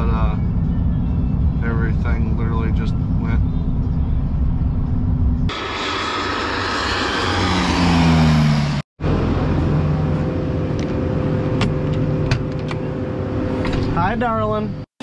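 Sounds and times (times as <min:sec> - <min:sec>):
airplane engine passing low: 0:00.0 - 0:14.9.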